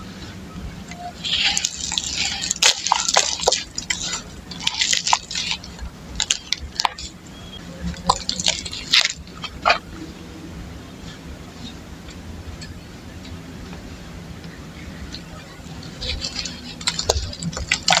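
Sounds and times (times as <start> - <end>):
dirt clods crunching: 0.0 - 10.2, 10.8 - 18.0.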